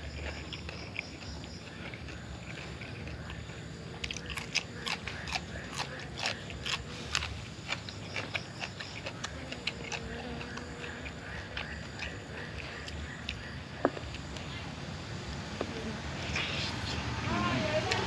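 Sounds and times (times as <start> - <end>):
man crunching raw vegetable: 0.0 - 14.6.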